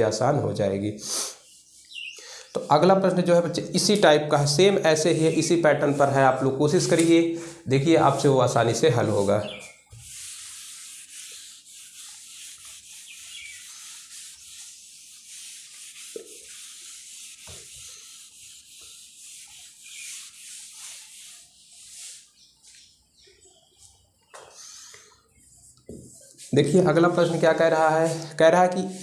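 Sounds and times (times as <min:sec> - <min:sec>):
duster wiping a whiteboard: 0:00.0 - 0:04.0, 0:04.6 - 0:07.3, 0:08.0 - 0:22.8, 0:24.7 - 0:29.0.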